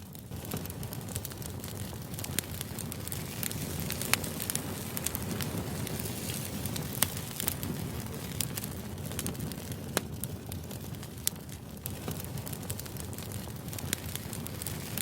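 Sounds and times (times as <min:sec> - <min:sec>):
sharp crackles and clicks: 0:00.0 - 0:15.0.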